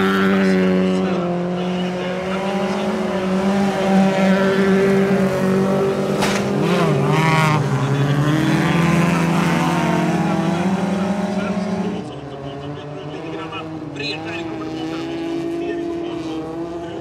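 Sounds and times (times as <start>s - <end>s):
race car engines on dirt track: 0.0s - 17.0s.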